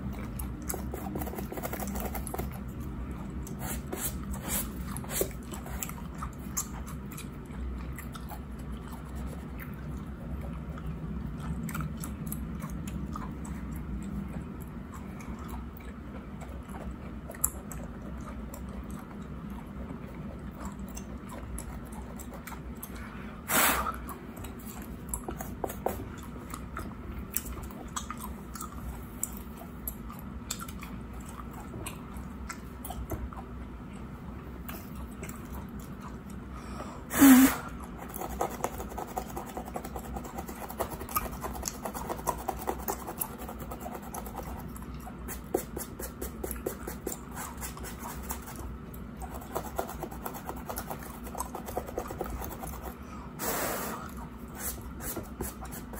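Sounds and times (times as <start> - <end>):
gum chewing with wet smacks: 0.0 - 36.5, 37.7 - 53.4.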